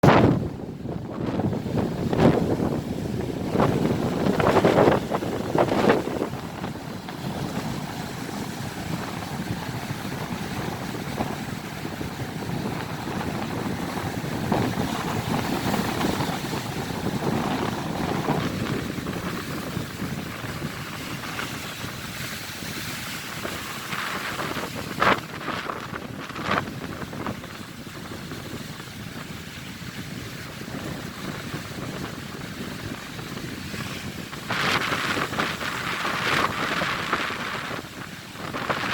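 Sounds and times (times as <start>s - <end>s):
waves breaking: 0.0s - 38.9s
wind buffeting microphone: 0.0s - 38.9s.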